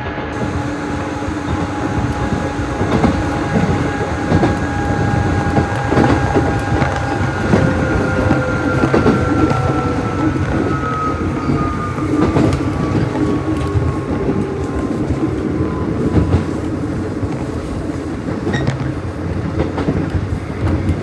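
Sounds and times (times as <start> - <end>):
train rumble: 0.0 - 21.0
whining tones: 0.4 - 17.8
wheels clicking over rail joints: 0.4 - 21.0.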